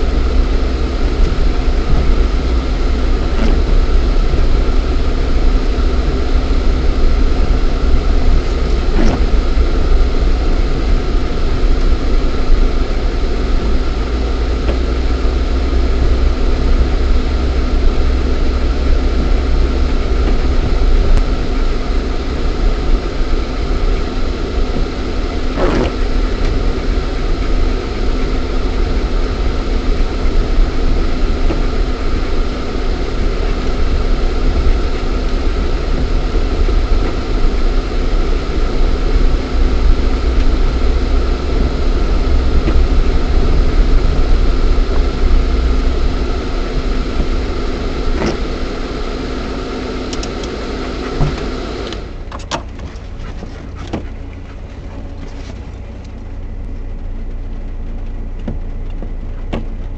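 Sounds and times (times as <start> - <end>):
car engine rumble inside cabin: 0.0 - 59.9.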